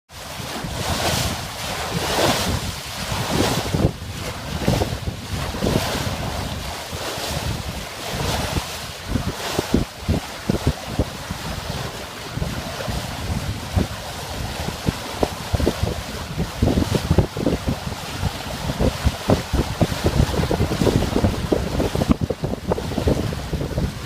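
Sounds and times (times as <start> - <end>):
water rushing along a hull: 0.1 - 24.0
wind buffeting microphone: 0.2 - 24.0
low wind thumps: 0.3 - 24.0.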